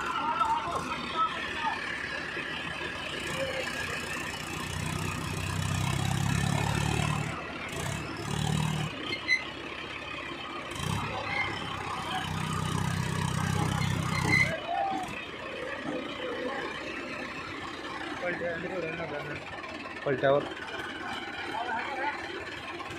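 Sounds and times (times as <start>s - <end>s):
tractor diesel engine under load: 0.0s - 22.9s.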